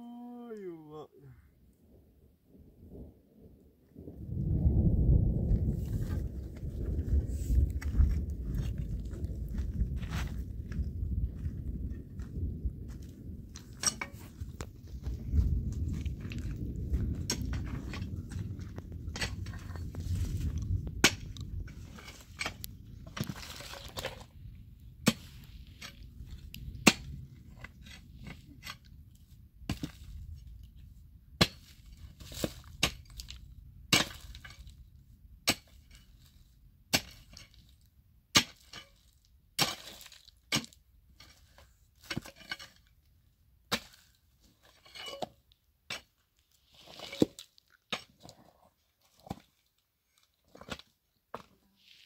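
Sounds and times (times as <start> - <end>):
pick striking rocky ground: 5.5 - 34.8, 35.4 - 43.0, 43.6 - 49.8, 50.4 - 51.6.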